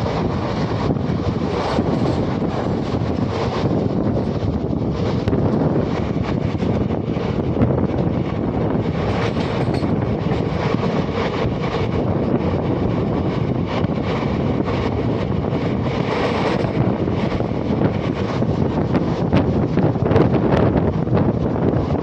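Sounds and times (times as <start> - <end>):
passenger train rumbling: 0.0 - 22.0
wind buffeting microphone: 0.0 - 22.0.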